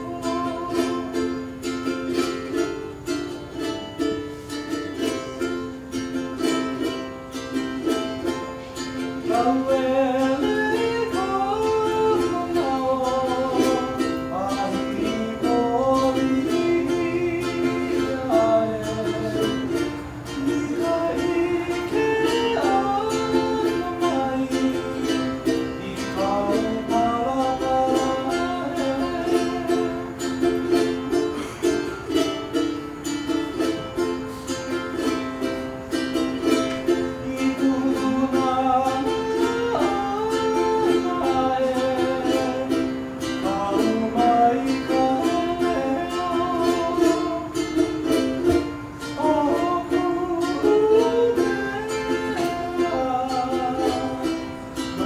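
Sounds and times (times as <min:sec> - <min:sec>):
man singing: 0:00.0 - 0:55.0
ukulele strumming: 0:00.0 - 0:55.0.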